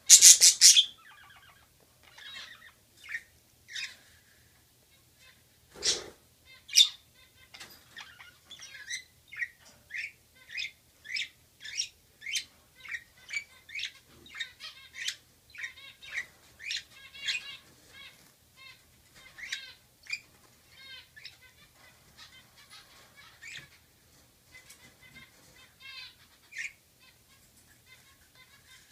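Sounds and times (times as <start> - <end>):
budgerigars chirping: 0.0 - 4.0, 5.2 - 23.8, 24.5 - 27.2.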